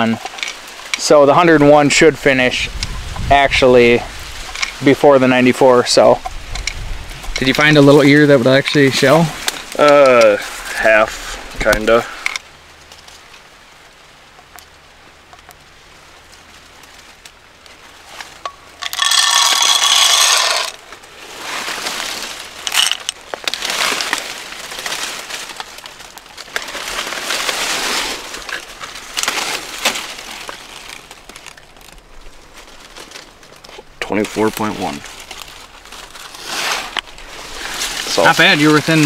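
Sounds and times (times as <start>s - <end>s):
dry corn kernels rattling: 0.0s - 12.4s, 18.0s - 39.0s
dry corn leaves rustling: 0.0s - 39.0s.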